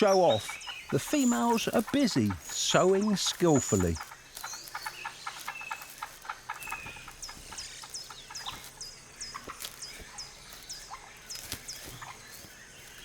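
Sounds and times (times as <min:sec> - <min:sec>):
birds calling high notes: 0:00.0 - 0:13.0
bird clucks and clicks: 0:00.3 - 0:13.0.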